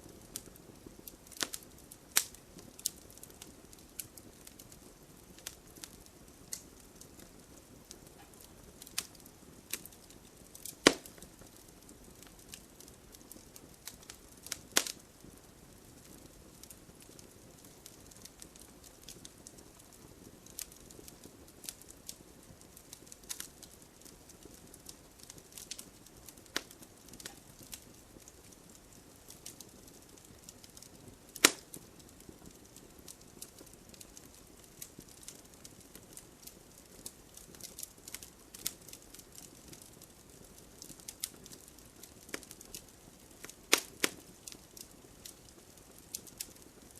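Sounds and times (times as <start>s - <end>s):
campfire wood crackling: 0.0s - 46.9s
low steady fire hiss: 0.0s - 46.9s.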